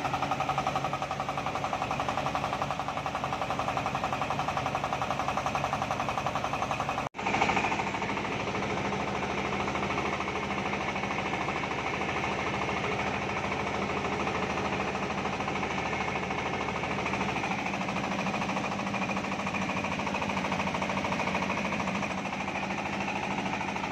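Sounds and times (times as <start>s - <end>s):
diesel engine knocking: 0.0s - 23.9s
rice huller milling: 0.0s - 23.9s.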